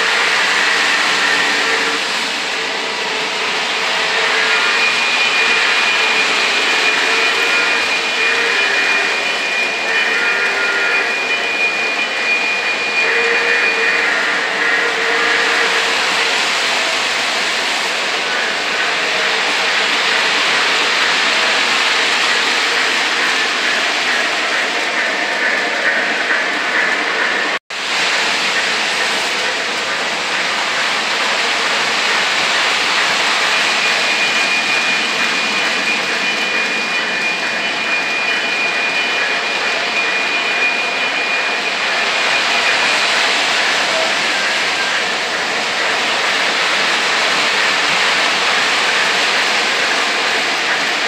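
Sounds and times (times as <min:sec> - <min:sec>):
model trains rumbling on track: 0:00.0 - 0:51.0
steady high tone: 0:00.0 - 0:51.0.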